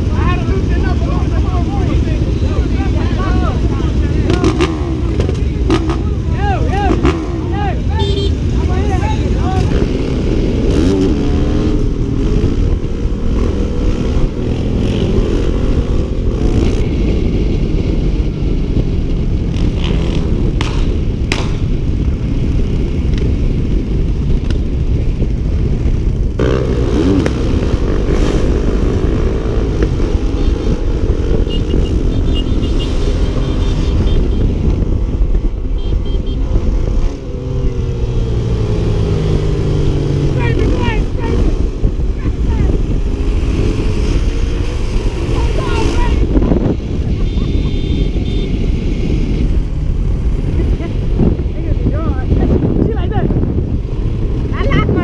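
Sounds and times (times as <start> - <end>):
dirt bike engine revving: 0.7 - 18.3, 19.4 - 21.8, 26.1 - 34.9, 35.8 - 53.0.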